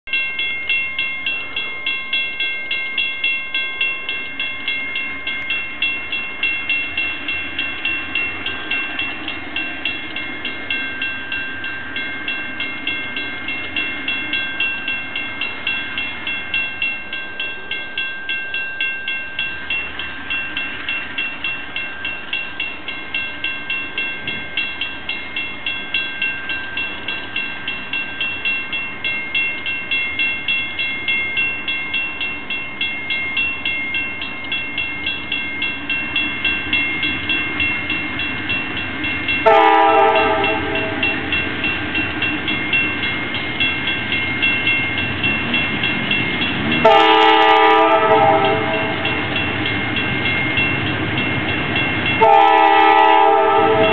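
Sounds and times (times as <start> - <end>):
railroad crossing bell ringing: 0.1 - 53.9.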